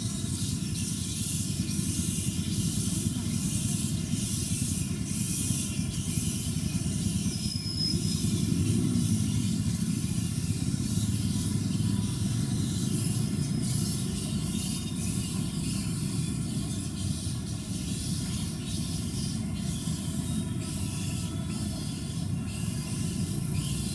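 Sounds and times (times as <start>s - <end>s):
outdoor background rumble: 0.0s - 23.9s.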